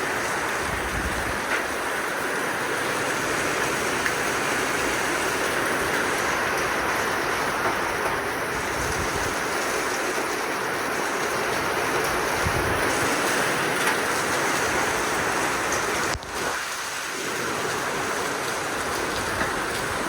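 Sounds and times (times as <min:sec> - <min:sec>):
heavy rain: 0:00.0 - 0:20.0
strong wind: 0:00.0 - 0:20.0.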